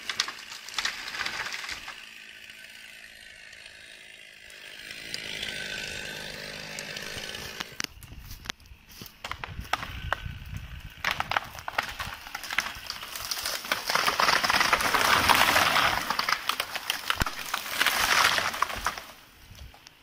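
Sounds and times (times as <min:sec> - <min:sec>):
tree cracking and crashing down: 0:00.0 - 0:03.6, 0:04.7 - 0:20.0.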